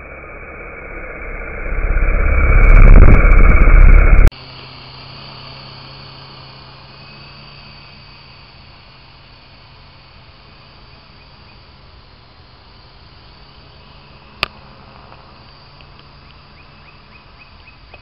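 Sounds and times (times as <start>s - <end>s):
model helicopter rotor whine: 0.0s - 16.8s
rotor buffeting rumble: 0.0s - 18.0s.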